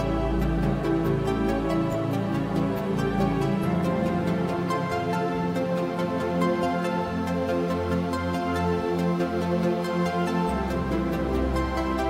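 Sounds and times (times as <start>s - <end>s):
ambient synthesizer music: 0.0s - 12.0s.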